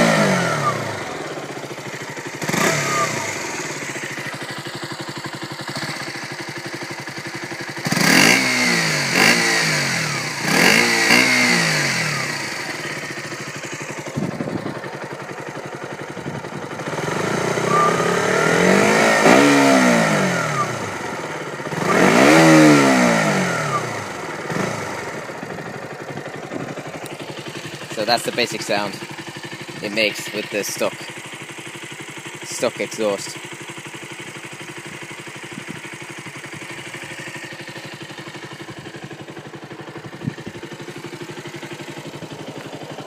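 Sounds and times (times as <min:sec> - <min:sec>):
motorcycle engine idling: 0:00.0 - 0:43.0
motorcycle engine revving: 0:00.0 - 0:43.0.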